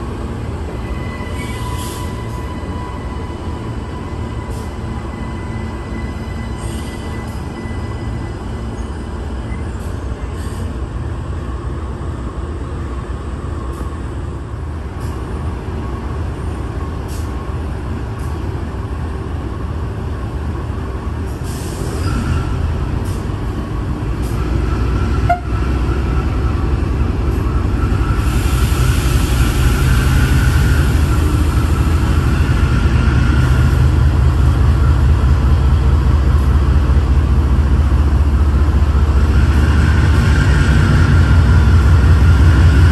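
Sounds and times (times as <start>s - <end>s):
diesel locomotive drone: 0.0s - 42.9s.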